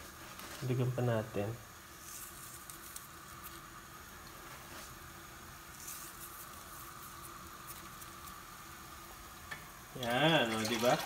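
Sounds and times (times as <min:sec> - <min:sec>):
faint patter of salt sprinkled: 0:00.0 - 0:11.0
soup boiling and bubbling: 0:00.0 - 0:11.0.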